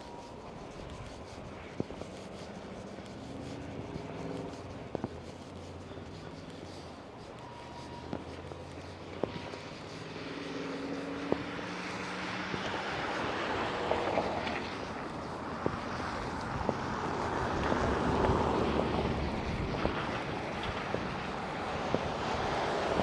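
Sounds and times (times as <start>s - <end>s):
engine hum: 0.0s - 23.0s.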